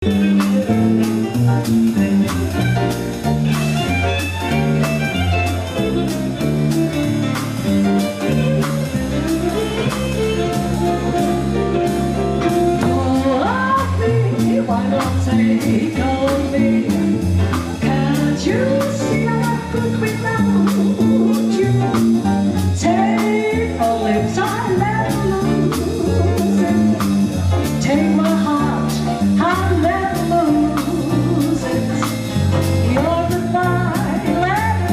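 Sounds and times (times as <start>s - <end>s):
lead melody sliding up: 0.0s - 28.3s
bass line: 0.0s - 34.9s
jazz band playing: 0.0s - 34.9s
drums with cymbal strokes: 0.1s - 34.9s.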